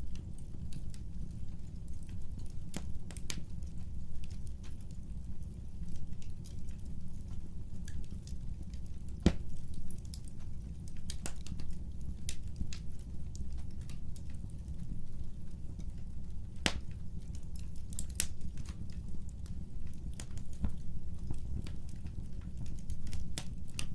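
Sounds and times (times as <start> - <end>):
crackles and pops of burning logs: 0.0 - 23.9
low rumble of flames: 0.0 - 23.9.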